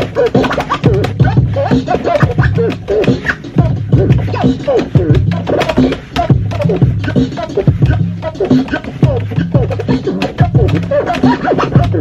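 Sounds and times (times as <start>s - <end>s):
beat with deep bass line: 0.0s - 12.0s
vinyl record scratching: 0.0s - 12.0s.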